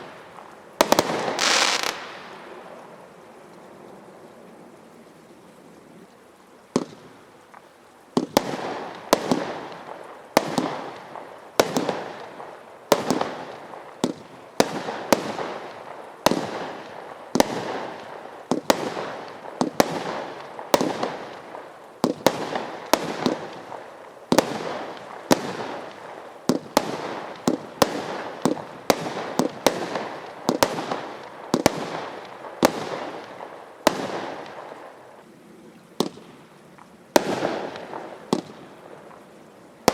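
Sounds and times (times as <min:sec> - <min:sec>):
firework bangs: 0:00.0 - 0:02.7, 0:08.2 - 0:35.1, 0:36.0 - 0:36.4, 0:37.1 - 0:39.2.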